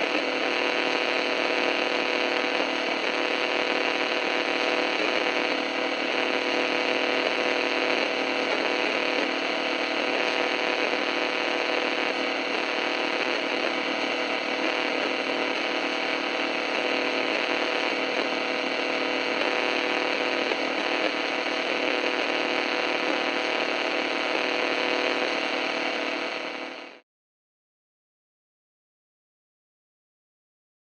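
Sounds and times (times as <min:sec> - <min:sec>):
buzzing interference hum: 0:00.0 - 0:27.0
radio static hiss: 0:00.0 - 0:27.0.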